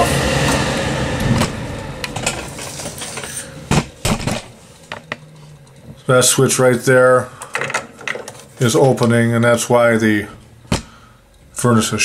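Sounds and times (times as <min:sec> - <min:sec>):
furnace fans spinning down: 0:00.0 - 0:12.0.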